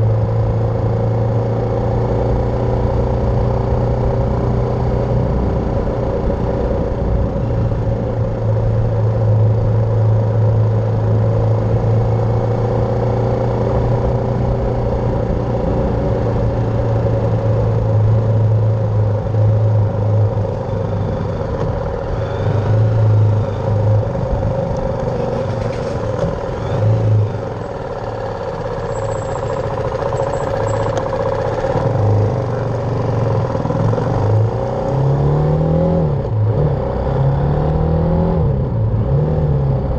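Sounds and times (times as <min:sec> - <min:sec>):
motorcycle engine running: 0:00.0 - 0:35.5.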